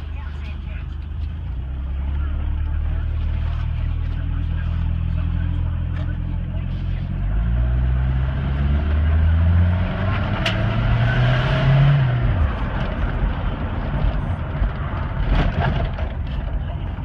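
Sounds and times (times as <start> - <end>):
pickup engine pulling: 0.0 - 17.0
road noise: 0.0 - 17.0.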